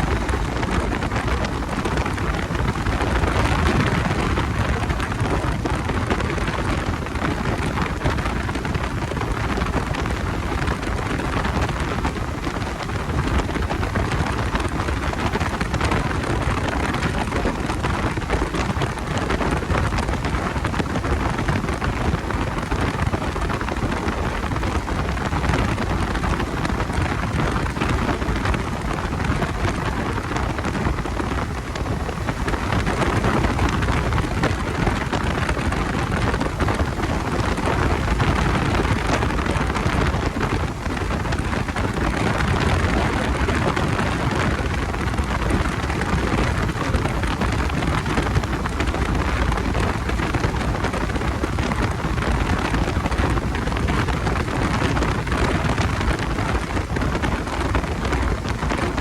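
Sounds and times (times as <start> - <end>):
wind and road noise rushing: 0.0 - 59.0.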